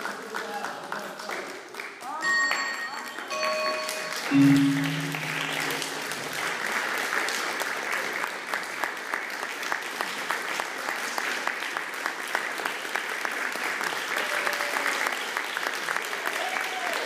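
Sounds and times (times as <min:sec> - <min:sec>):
audience applauding: 0:03.0 - 0:17.0.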